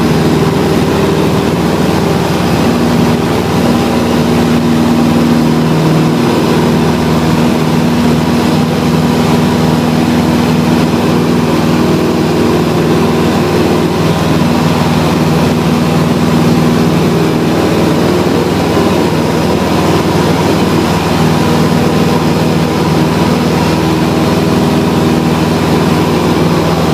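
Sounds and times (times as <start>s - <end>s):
light aircraft engine and propeller: 0.0s - 26.9s.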